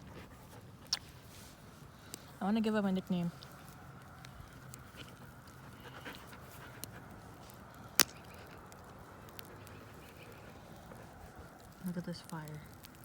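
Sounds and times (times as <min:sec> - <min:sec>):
puppy panting: 0:00.0 - 0:13.0.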